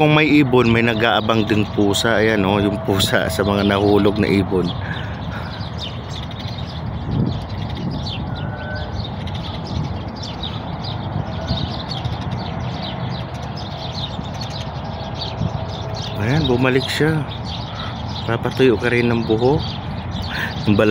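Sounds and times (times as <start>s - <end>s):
flock of small birds chirping: 0.0s - 20.9s.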